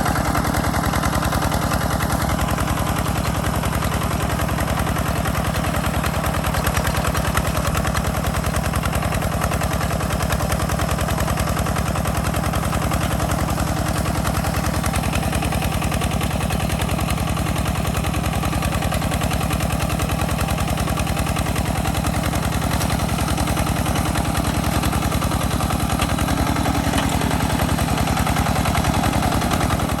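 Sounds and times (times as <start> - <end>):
hand tractor engine chugging: 0.0 - 30.0.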